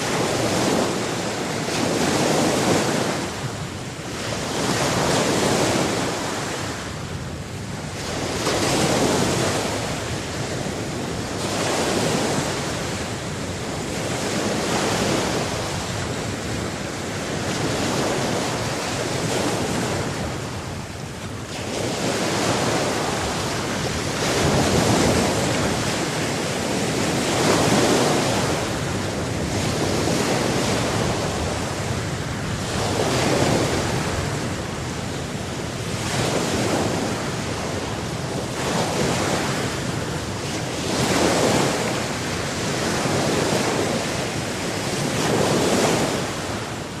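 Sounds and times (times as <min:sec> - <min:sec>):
ocean waves breaking on shore: 0:00.0 - 0:47.0
wind: 0:00.0 - 0:47.0.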